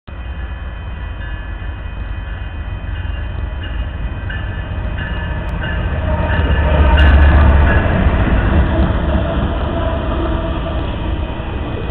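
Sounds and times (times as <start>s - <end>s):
diesel locomotive engine rumble: 0.1s - 11.9s.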